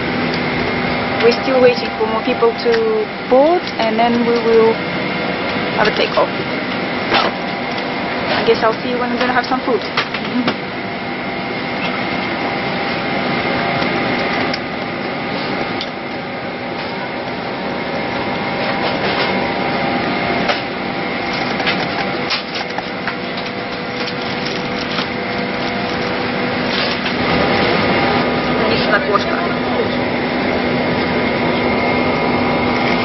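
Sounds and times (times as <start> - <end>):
cabin air-conditioning hum: 0.0 - 33.0.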